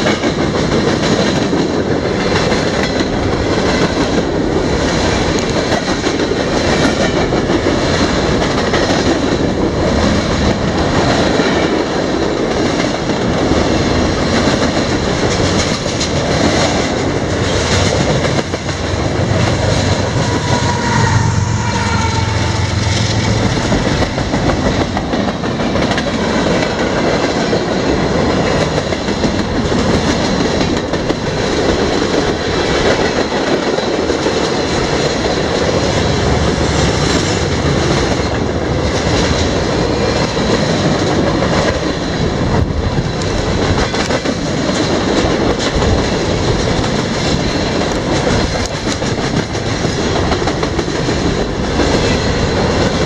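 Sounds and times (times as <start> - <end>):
freight train rumbling: 0.0 - 53.0
wheels clacking over rail joints: 0.0 - 53.0.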